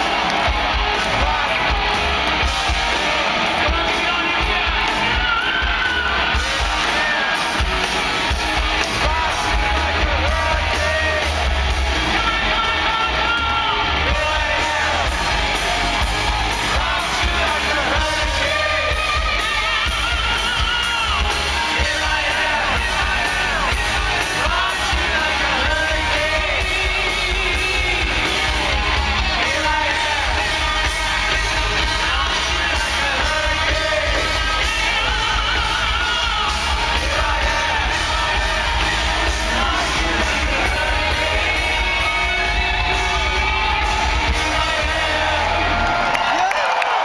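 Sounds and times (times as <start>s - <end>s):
crowd yelling along: 0.0s - 47.0s
hard rock band playing live: 0.0s - 47.0s
lead singer's vocal: 0.0s - 47.0s.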